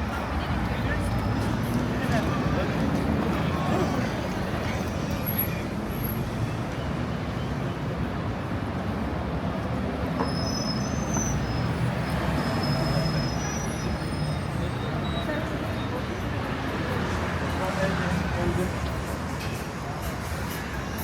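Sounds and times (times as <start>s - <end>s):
city traffic rumbling: 0.0s - 21.0s.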